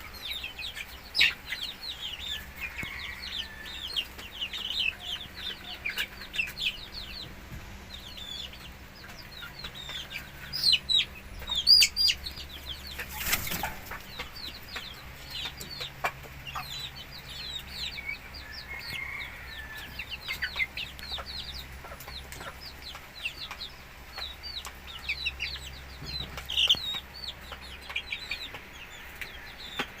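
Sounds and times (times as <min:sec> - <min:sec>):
chickens peeping and clucking: 0:00.0 - 0:30.0.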